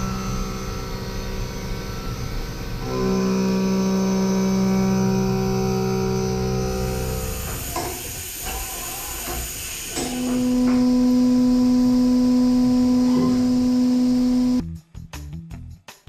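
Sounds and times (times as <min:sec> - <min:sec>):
cnc machine hissing: 0:00.0 - 0:14.6
loud steady pitched tone: 0:00.0 - 0:14.6.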